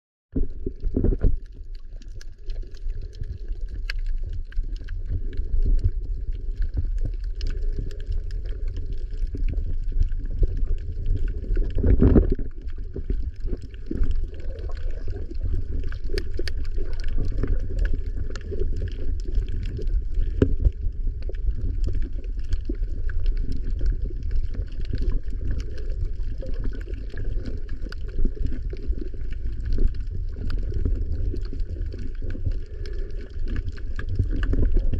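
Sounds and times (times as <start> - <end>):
low underwater rumble: 0.3 - 34.9
fine crackling clicks: 0.4 - 34.9.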